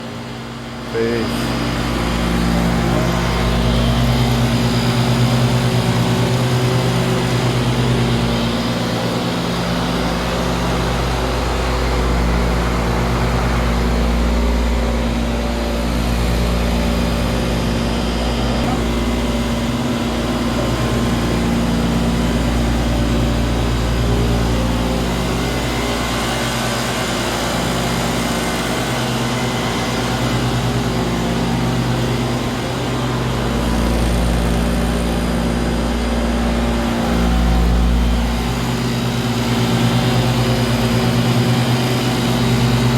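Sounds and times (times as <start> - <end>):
refrigeration chiller humming: 0.0 - 42.9.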